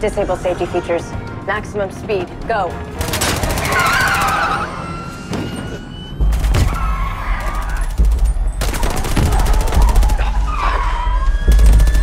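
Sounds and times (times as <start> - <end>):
electronic film score: 0.0 - 12.0.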